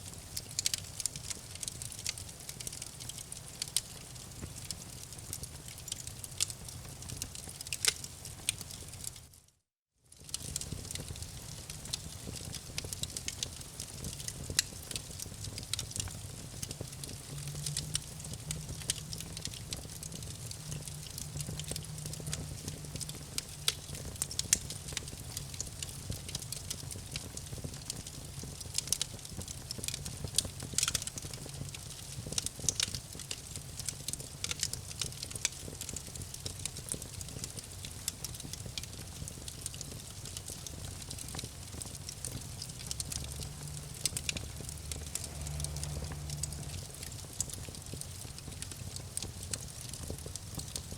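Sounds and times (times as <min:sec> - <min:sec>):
low fire rumble: 0:00.0 - 0:09.2, 0:10.1 - 0:50.9
campfire wood crackling and popping: 0:00.0 - 0:09.4, 0:10.1 - 0:50.9.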